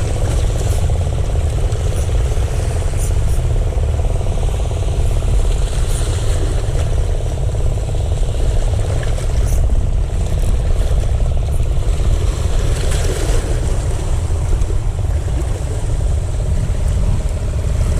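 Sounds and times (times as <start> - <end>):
wind rumble: 0.0 - 17.9.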